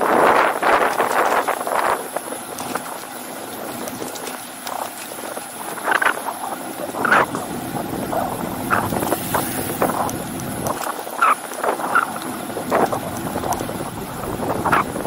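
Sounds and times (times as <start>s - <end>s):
bicycle rattles and knocks: 0.0s - 15.0s
wind rush on microphone: 0.0s - 15.0s.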